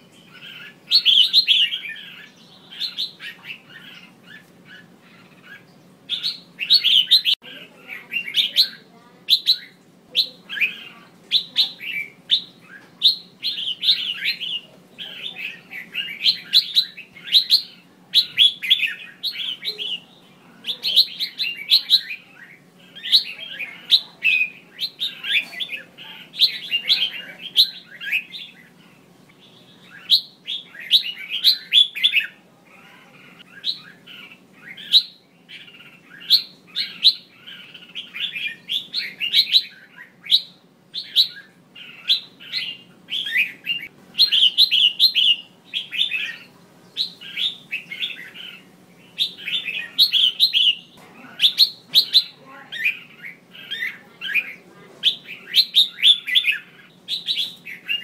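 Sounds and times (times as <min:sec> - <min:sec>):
bird chirping and chattering: 0:00.0 - 0:58.0.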